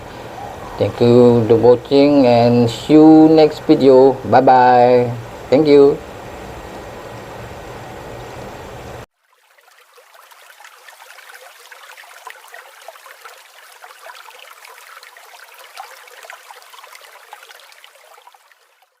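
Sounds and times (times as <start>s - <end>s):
water trickling and babbling: 0.0s - 19.0s.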